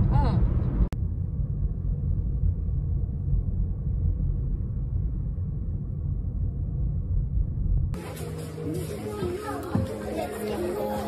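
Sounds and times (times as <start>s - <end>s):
car driving low rumble: 0.0s - 10.7s.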